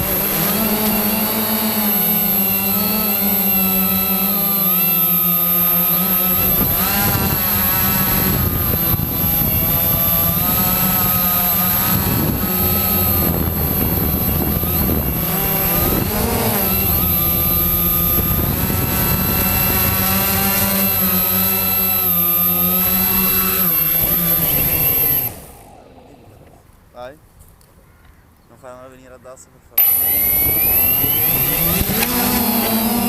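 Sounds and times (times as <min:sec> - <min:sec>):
quadcopter motors whining: 0:00.0 - 0:26.7, 0:29.8 - 0:33.0.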